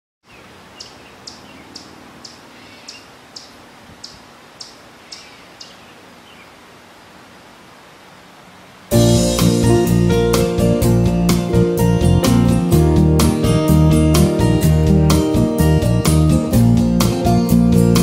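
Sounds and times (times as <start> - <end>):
faint outdoor hiss: 0.2 - 18.0.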